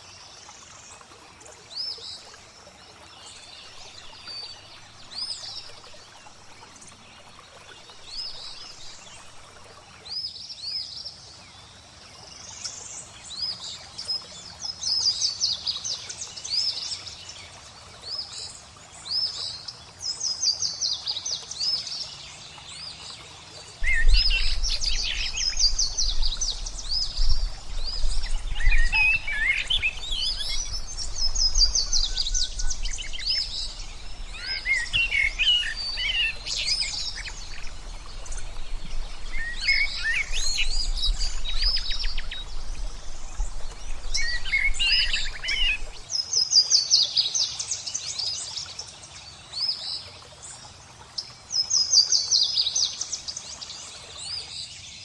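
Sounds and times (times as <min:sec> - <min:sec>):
songbirds singing and chirping: 0:00.0 - 0:11.4, 0:20.6 - 0:55.0.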